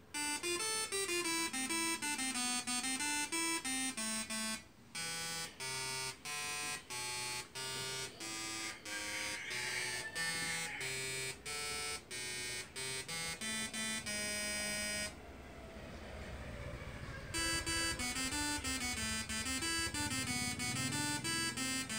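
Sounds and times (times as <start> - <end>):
tesla coil playing melody: 0.0 - 15.2, 16.9 - 21.9.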